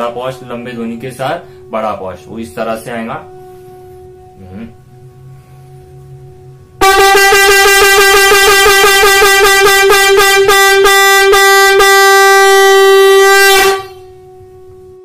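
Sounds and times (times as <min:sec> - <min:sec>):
conch shell blowing: 0:00.0 - 0:15.0.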